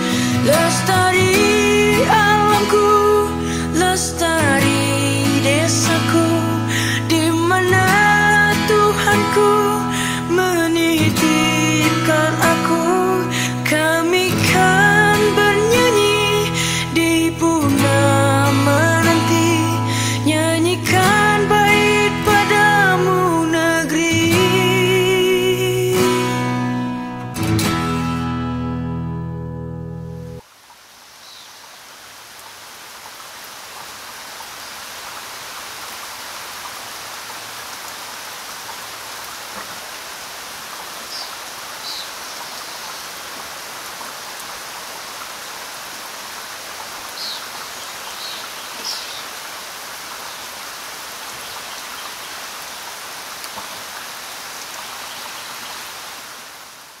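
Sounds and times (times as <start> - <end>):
waterfall rushing: 0.0 - 28.4, 30.4 - 57.0.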